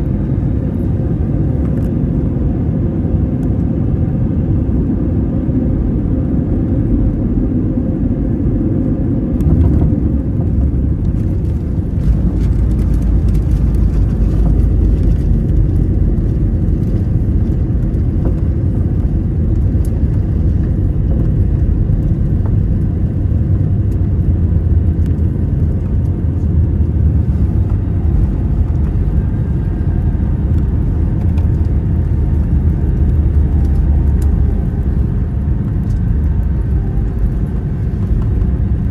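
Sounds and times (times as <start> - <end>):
aircraft cabin rumble: 0.0 - 38.9.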